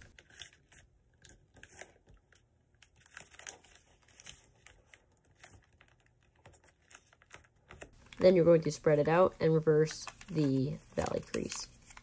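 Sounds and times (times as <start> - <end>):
paper rustling and crinkling: 0.0 - 8.1, 9.8 - 12.0.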